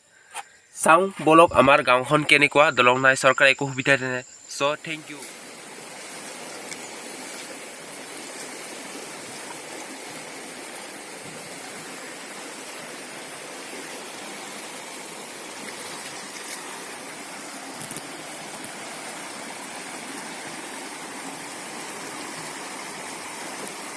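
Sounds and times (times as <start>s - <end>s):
floodwater rushing: 4.6s - 23.9s.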